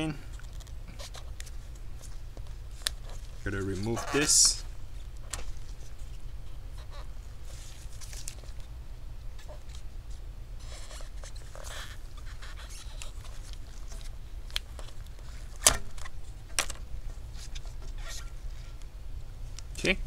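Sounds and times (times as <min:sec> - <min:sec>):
low steady hum: 0:00.0 - 0:20.0
scratchy rustling: 0:00.3 - 0:06.2, 0:06.8 - 0:08.7, 0:09.4 - 0:18.8.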